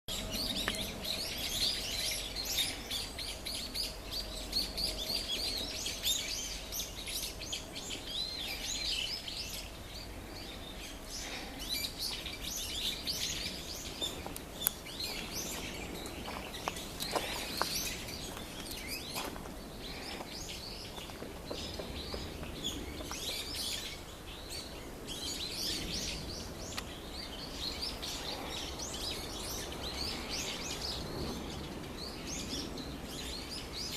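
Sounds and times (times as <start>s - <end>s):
birds calling together: 0.1s - 33.9s.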